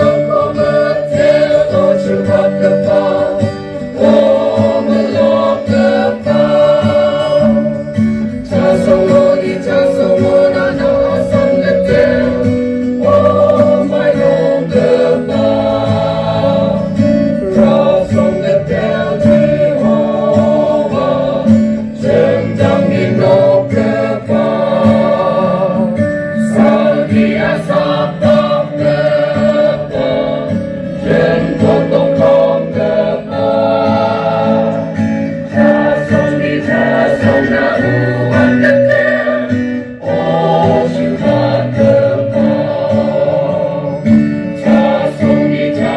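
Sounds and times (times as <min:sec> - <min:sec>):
choir singing a hymn: 0:00.0 - 0:45.9
instrumental accompaniment: 0:00.0 - 0:45.9.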